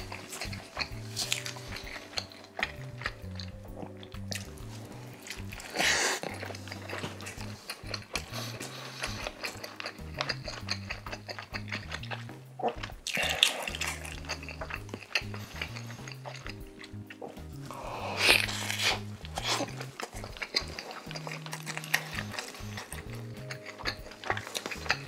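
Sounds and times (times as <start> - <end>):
background music with low bass: 0.0 - 25.0
chewing sandwich mouth sounds: 0.0 - 25.0.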